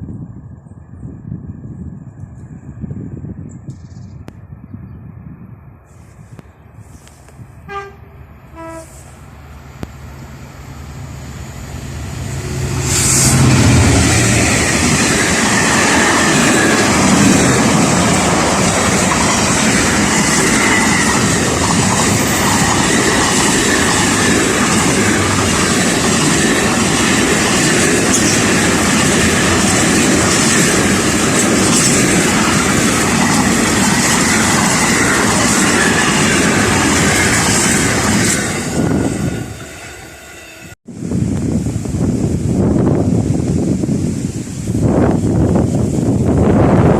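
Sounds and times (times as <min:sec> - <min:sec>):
train passing on rails: 0:00.0 - 0:46.9.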